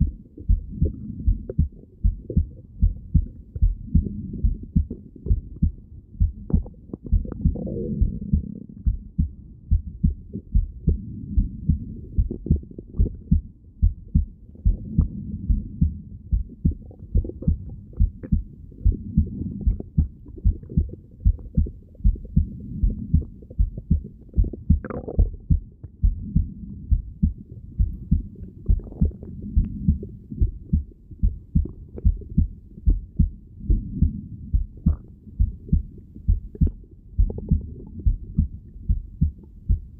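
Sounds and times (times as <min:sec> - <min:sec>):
heartbeat thumps through stethoscope: 0:00.0 - 0:39.9.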